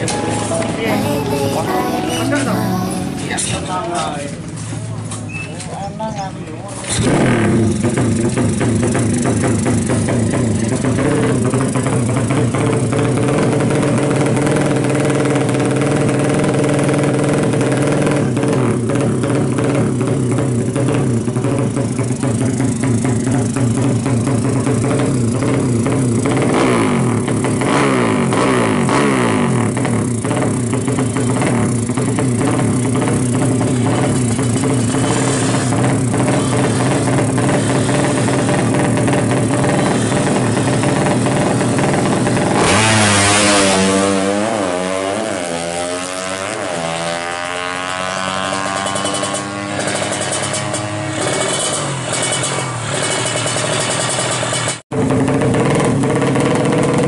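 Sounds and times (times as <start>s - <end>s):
motorcycle engine loud exhaust: 3.6s - 57.0s.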